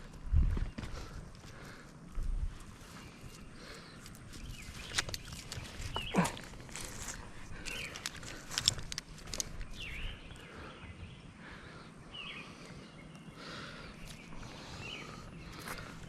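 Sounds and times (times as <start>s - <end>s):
bird chirping: 2.8s - 16.0s.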